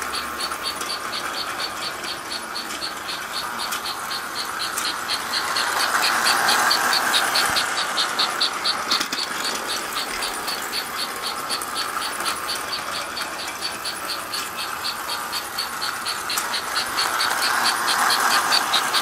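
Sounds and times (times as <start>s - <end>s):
toy steam locomotive chugging: 0.0s - 19.0s.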